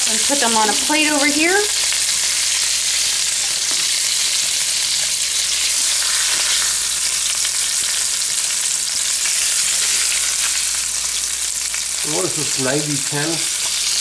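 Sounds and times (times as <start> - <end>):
oil sizzling in frying pan: 0.0 - 14.0.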